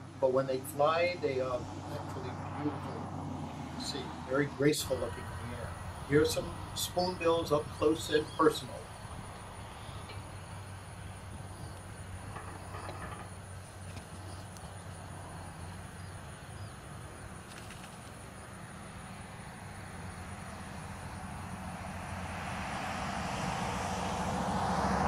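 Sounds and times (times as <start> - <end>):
low rumble of vehicles: 0.0 - 25.0
vehicle approaching: 0.0 - 25.0.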